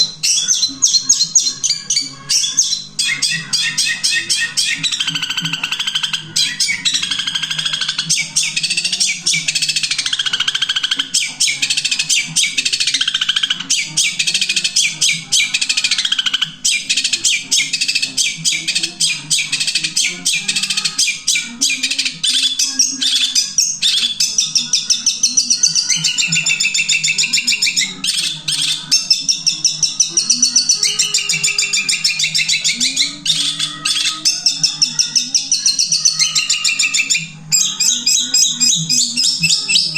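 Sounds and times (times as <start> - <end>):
bird singing rapid chirps and trills: 0.0 - 39.9.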